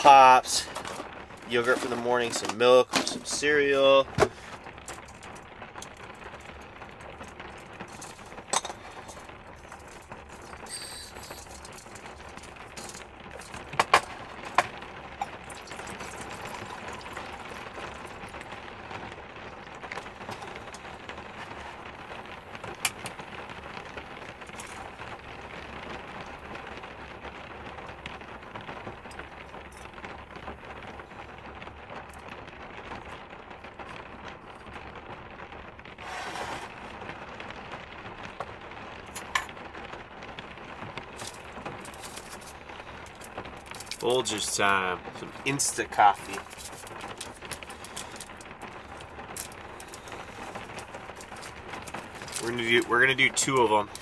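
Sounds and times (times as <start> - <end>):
rain on vehicle roof: 0.0 - 54.0.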